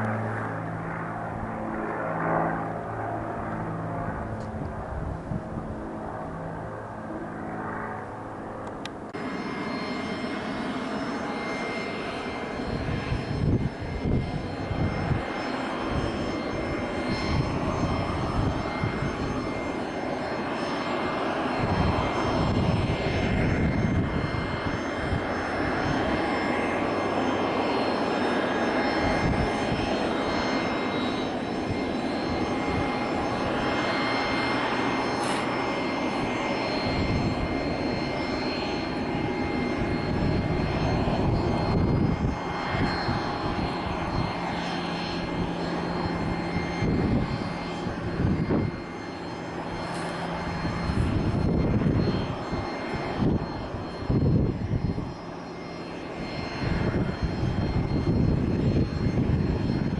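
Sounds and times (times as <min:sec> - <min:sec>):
jet engines roaring with whine: 0:00.0 - 0:59.9
wind buffeting microphone: 0:00.1 - 0:07.8, 0:11.4 - 0:59.9.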